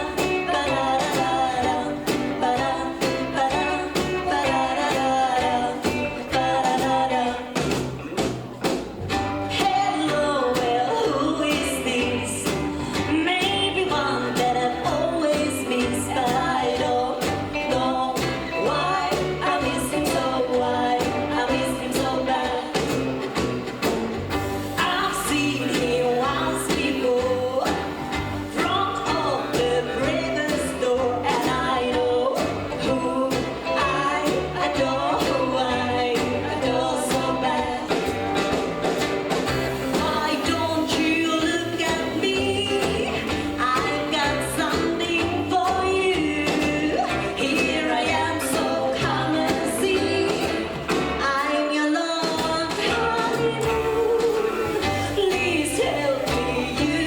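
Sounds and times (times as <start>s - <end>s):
lead vocal singing: 0.0s - 8.6s, 9.4s - 23.9s, 24.5s - 57.0s
rockabilly band playing: 0.0s - 57.0s.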